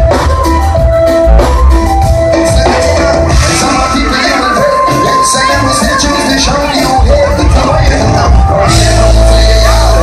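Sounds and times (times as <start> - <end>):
heavy bass line: 0.0 - 10.0
reggae band playing: 0.0 - 10.0.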